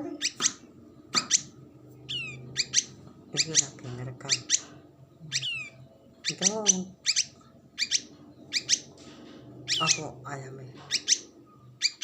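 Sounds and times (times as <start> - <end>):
bird trill: 0.0 - 10.2, 10.8 - 12.0
faint low hum: 0.0 - 12.0
songbirds chirping: 0.0 - 12.0.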